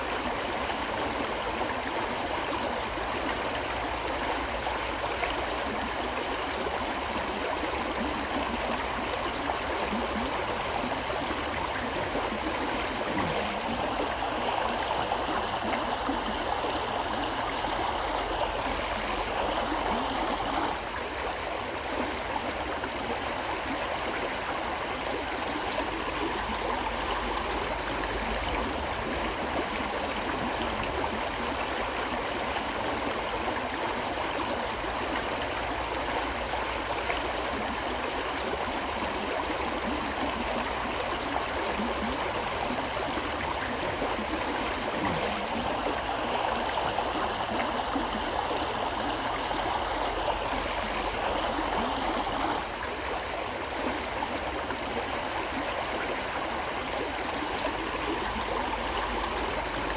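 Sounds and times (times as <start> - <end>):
river flowing: 0.0 - 59.9.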